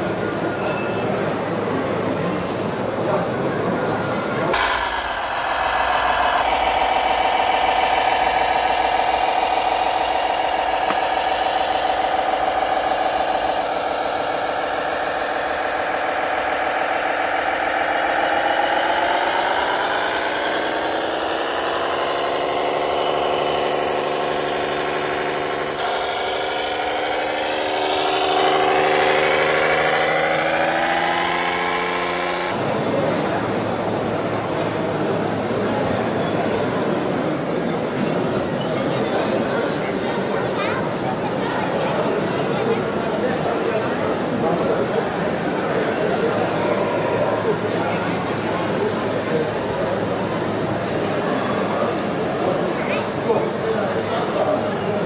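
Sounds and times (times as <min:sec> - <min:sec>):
model tractor motor whining: 0:00.0 - 0:55.0.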